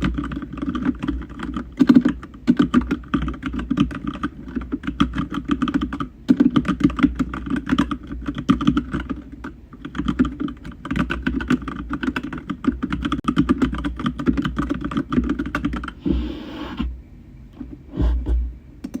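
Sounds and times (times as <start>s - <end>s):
fast typing on a keyboard: 0.0s - 16.0s.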